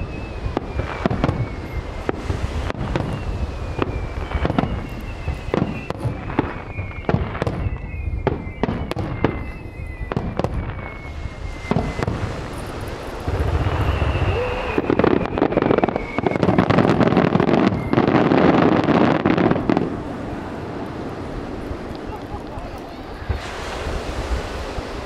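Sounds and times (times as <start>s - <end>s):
falling whistling tone: 0.0s - 20.5s
fireworks bursting: 0.0s - 25.0s.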